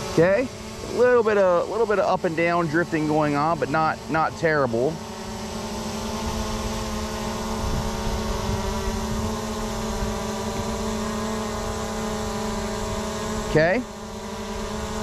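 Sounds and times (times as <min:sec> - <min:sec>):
quadcopter propellers humming: 0:00.0 - 0:15.0.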